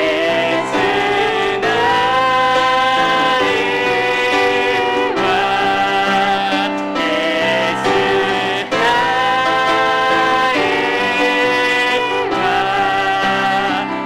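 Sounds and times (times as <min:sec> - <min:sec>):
piano accompaniment: 0:00.0 - 0:14.0
worship team singing a hymn: 0:00.0 - 0:14.0.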